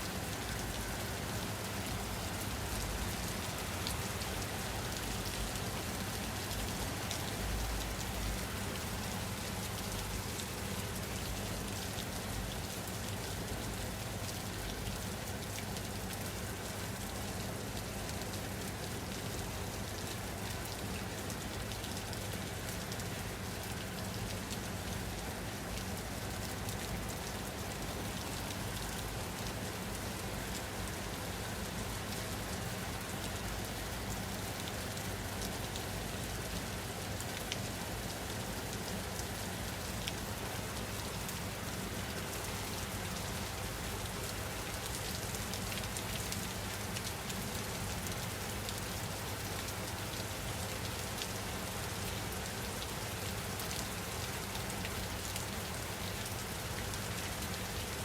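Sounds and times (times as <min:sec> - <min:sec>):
rain falling on a surface: 0:00.0 - 0:58.0.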